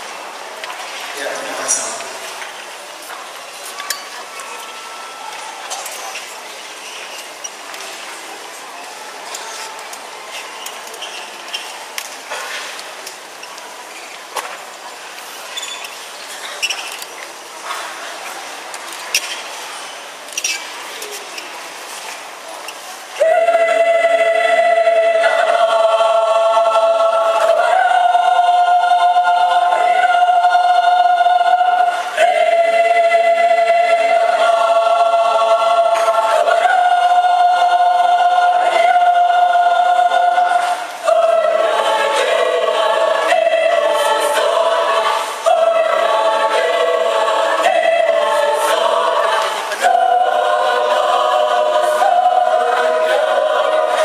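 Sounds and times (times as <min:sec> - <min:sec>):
mixed choir singing: 0:00.0 - 0:13.4, 0:21.7 - 0:54.0.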